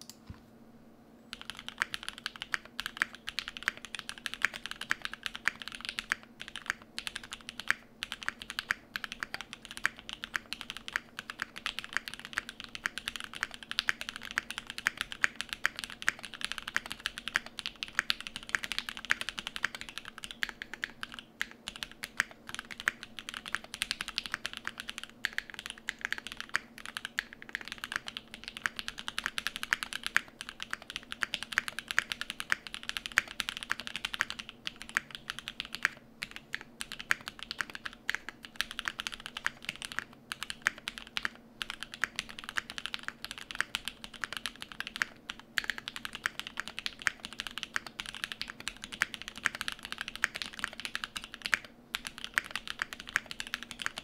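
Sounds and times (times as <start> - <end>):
faint steady hum: 0.0 - 54.0
mechanical keyboard typing: 1.3 - 54.0.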